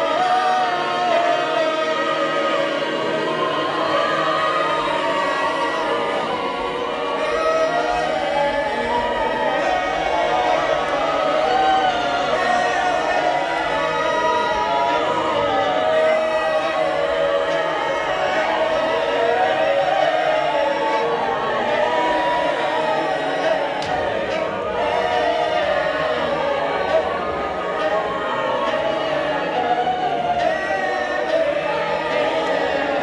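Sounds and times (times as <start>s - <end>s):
choir singing long notes: 0.0s - 33.0s.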